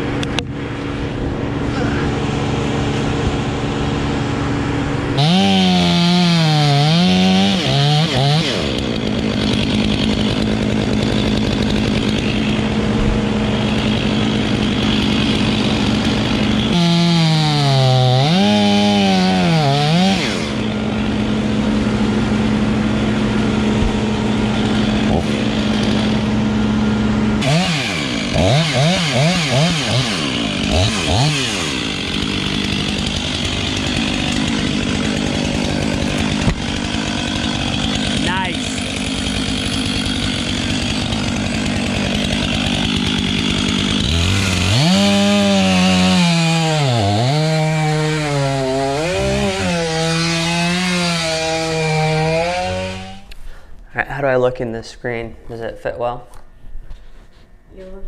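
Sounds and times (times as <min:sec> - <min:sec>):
chainsaw cutting wood: 0:00.0 - 0:53.5.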